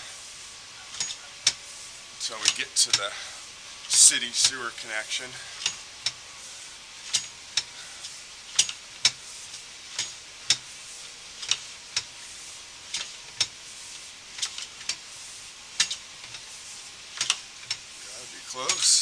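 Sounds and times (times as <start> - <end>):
water running in pipe: 0.0 - 19.0.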